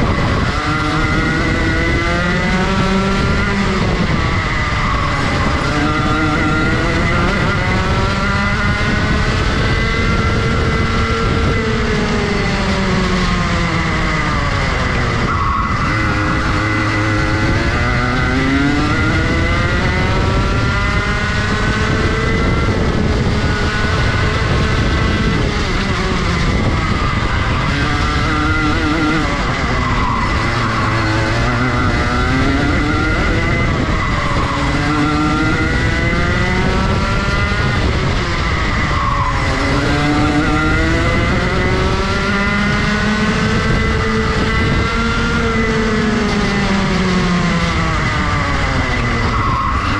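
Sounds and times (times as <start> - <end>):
kart engine revving: 0.0 - 49.9.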